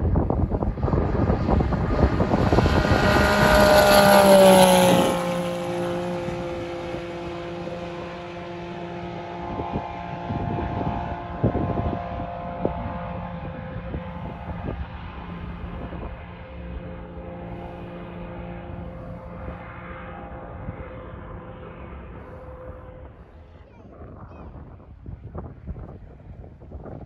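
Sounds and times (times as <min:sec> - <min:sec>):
race buggy engine passing by: 0:00.0 - 0:24.2.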